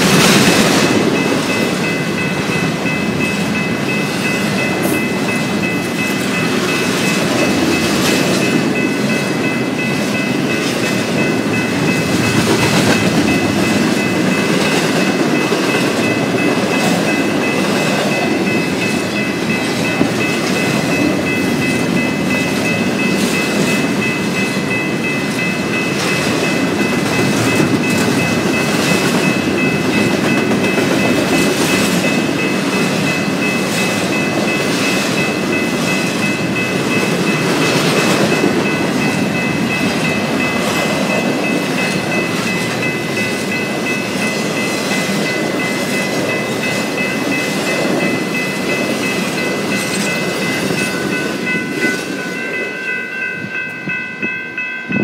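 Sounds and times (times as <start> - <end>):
rail joint clicks: 0.0 - 55.0
train wheels rumbling on rails: 0.0 - 55.0.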